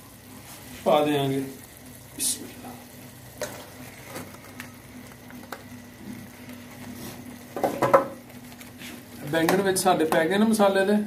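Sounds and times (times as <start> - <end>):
food frying in a pan: 0.0 - 11.0.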